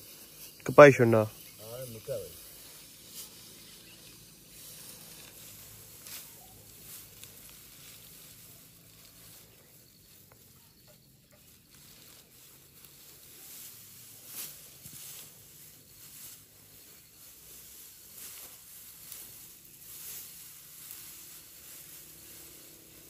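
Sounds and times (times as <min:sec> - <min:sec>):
dry grass rustling: 0:00.0 - 0:23.0
soft brushing strokes: 0:00.0 - 0:23.0.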